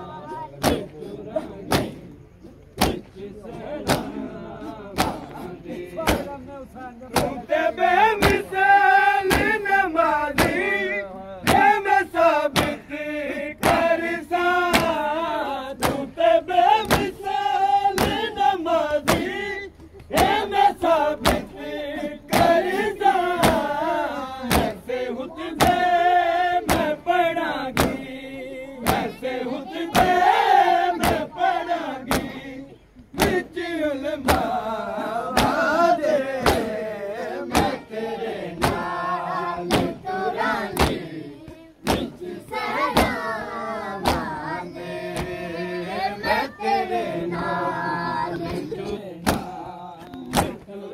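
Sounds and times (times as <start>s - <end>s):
crowd of men chanting: 0.0s - 50.9s.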